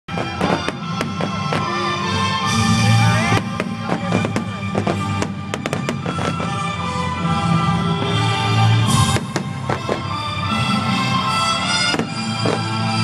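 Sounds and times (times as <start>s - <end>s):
fireworks bursting: 0.1s - 13.0s
music with held notes: 0.1s - 13.0s.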